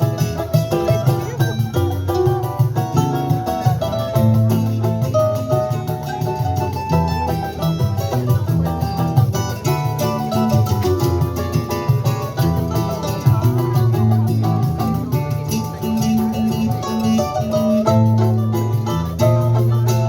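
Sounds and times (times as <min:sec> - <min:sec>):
bright plucked cavaquinho runs: 0:00.0 - 0:20.0
choro music by small band: 0:00.0 - 0:20.0
guitar: 0:00.0 - 0:20.0
low bass line: 0:00.0 - 0:20.0.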